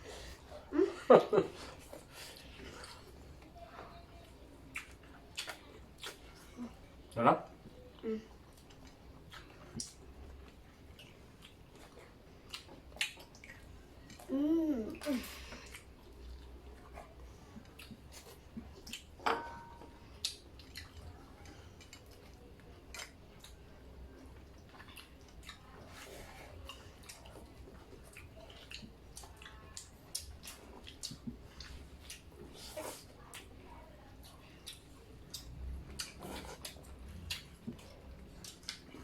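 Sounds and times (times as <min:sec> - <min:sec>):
chewing and mouth smacks: 0:01.6 - 0:06.8, 0:07.5 - 0:14.3, 0:15.0 - 0:19.2, 0:20.0 - 0:39.0.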